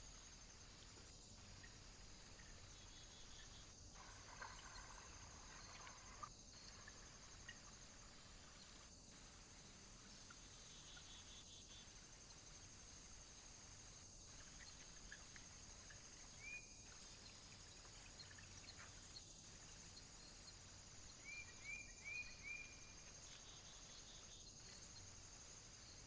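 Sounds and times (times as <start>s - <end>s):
faint small bird chirps: 0.0s - 26.0s
steady high hiss: 0.0s - 26.0s.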